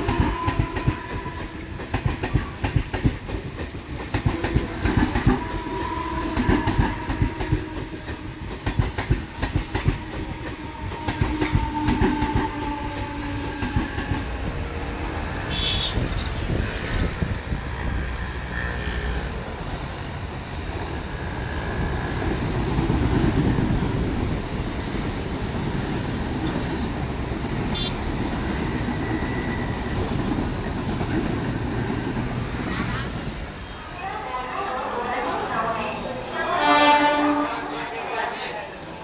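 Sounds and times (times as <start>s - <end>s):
train wheels rumbling on rails: 0.0s - 37.8s.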